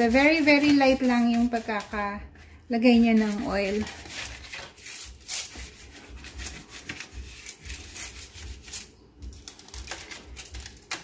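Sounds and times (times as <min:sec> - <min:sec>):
pastry brush scratching on paper: 0:00.0 - 0:08.9.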